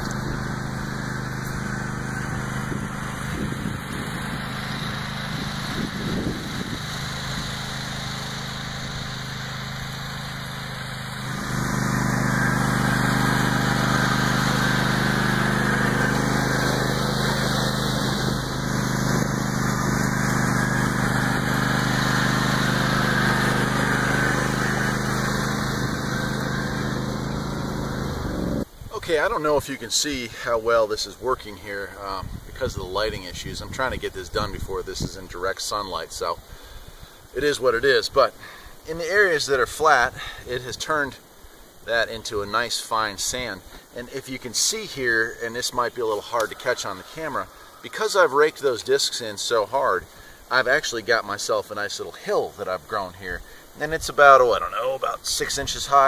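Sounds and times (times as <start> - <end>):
garden tractor engine running: 0.0 - 40.8, 42.0 - 56.0.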